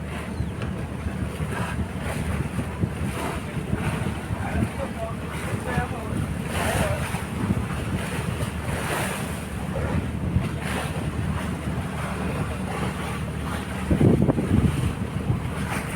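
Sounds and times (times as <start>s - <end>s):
sea waves: 0.0s - 15.9s
wind buffeting microphone: 0.0s - 15.9s.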